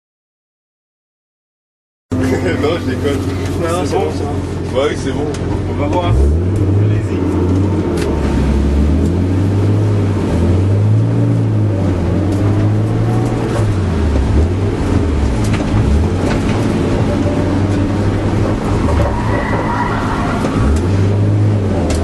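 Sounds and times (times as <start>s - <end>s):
car engine accelerating: 2.1s - 22.0s.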